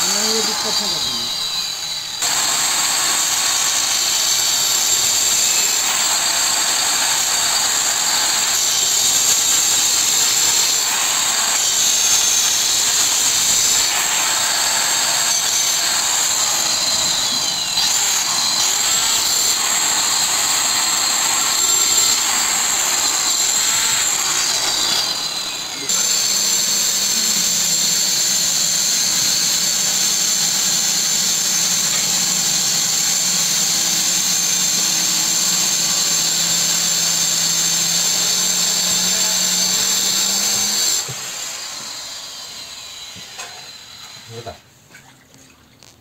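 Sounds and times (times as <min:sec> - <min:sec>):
electric tile cutter whining: 0:00.0 - 0:44.6.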